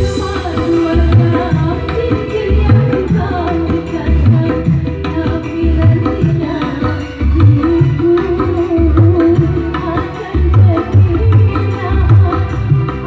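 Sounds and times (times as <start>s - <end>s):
band music over loudspeakers: 0.0s - 13.0s
hand drums beating: 0.0s - 13.0s.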